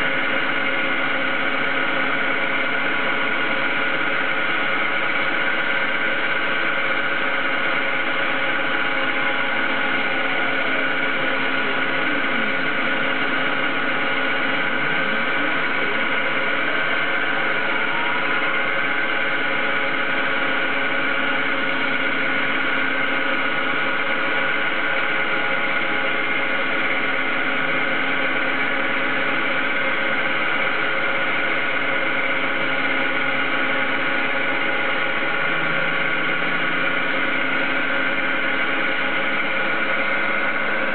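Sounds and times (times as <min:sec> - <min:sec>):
lathe motor hum and whine: 0:00.0 - 0:40.9
stepper motor tone: 0:00.0 - 0:40.9.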